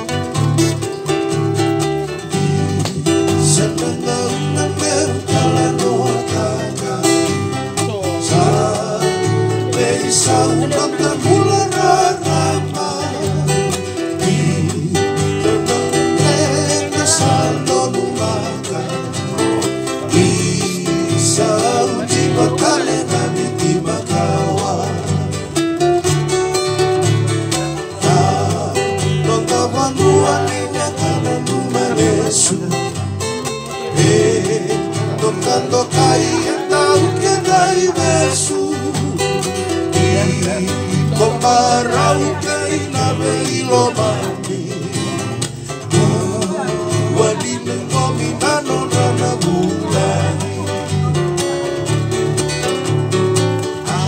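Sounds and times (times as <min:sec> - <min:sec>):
low bass notes: 0:00.0 - 0:54.0
plucked guitars: 0:00.0 - 0:54.0
person singing: 0:02.0 - 0:25.6, 0:27.3 - 0:52.4, 0:53.5 - 0:54.0.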